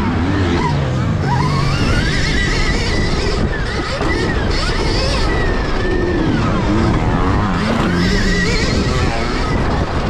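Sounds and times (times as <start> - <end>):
electric motorbike motor whining: 0.0 - 10.0
wind on microphone: 1.6 - 10.0.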